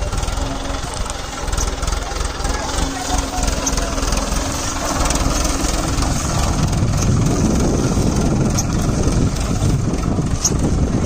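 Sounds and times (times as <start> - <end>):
tractor diesel engine rumbling: 0.0 - 11.0.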